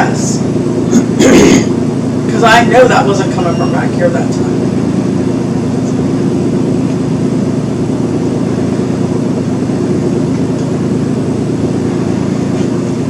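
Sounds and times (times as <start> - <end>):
fan droning hum: 0.0 - 13.0.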